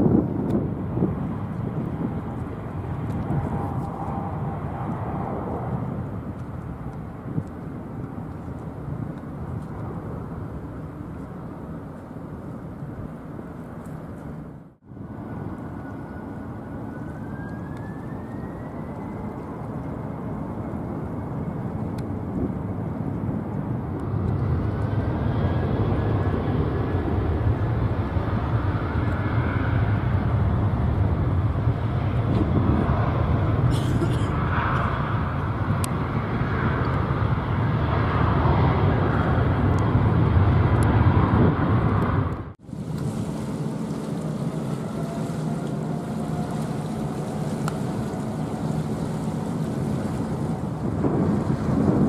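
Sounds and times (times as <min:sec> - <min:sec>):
jet engines whining: 0:00.0 - 0:08.7, 0:15.0 - 0:52.0
deep jet rumble: 0:00.0 - 0:52.0.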